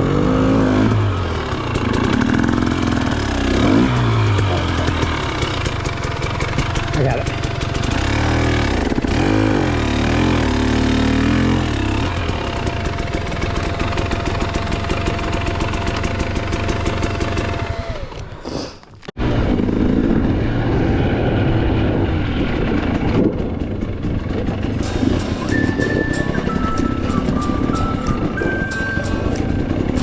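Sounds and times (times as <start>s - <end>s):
dirt bike engine running: 0.0s - 18.4s, 19.2s - 30.0s.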